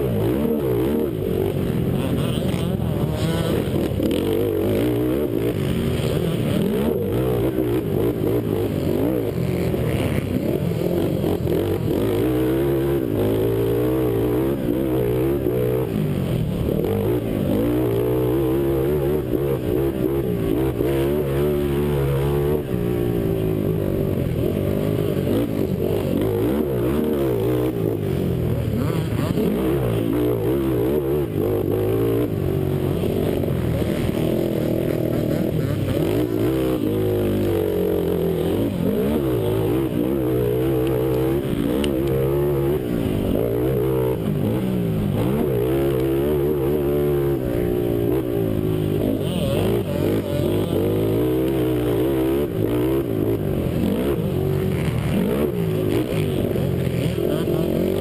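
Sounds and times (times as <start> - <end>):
quad engine revving hard: 0.0 - 58.0.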